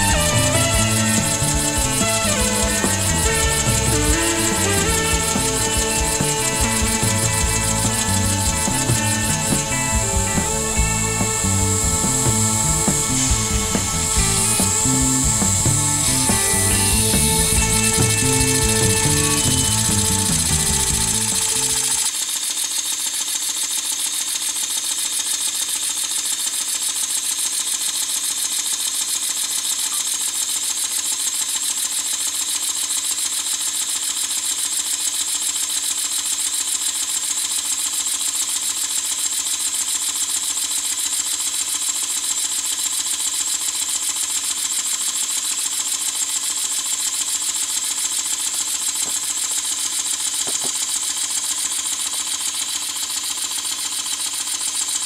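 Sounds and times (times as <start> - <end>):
model steam engine exhaust puffs: 0.0 - 55.0.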